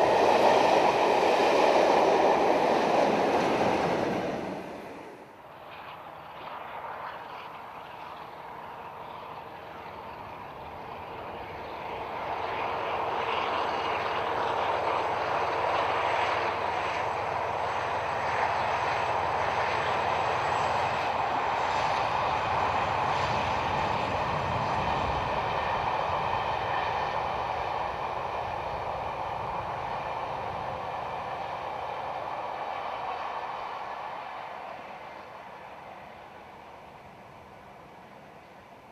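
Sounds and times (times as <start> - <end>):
diesel locomotive engine passing: 0.0 - 38.9.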